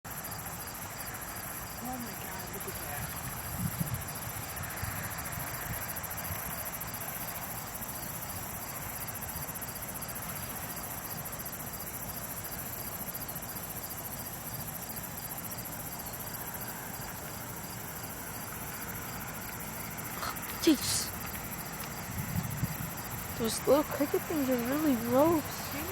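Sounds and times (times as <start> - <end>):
crickets chirping: 0.1 - 25.9.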